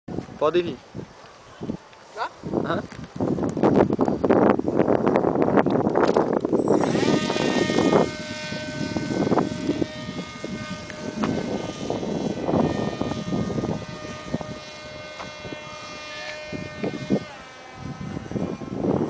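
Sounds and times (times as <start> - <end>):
model plane motor whining: 1.6 - 19.0.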